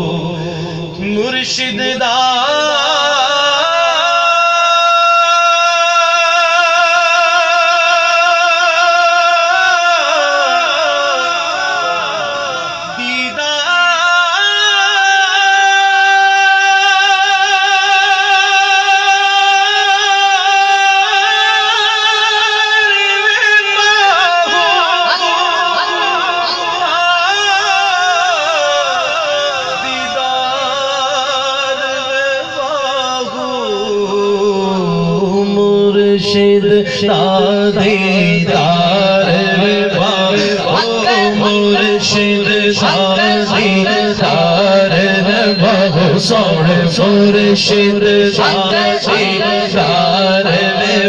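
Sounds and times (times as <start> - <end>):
man singing with vibrato: 0.0 - 51.0.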